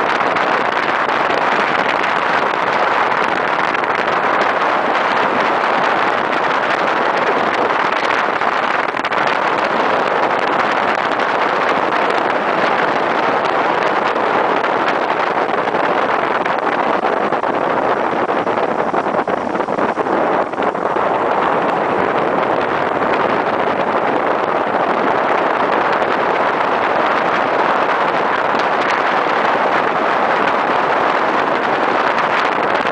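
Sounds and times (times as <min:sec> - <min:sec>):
road noise: 0:00.0 - 0:32.9
wind on microphone: 0:00.0 - 0:32.9.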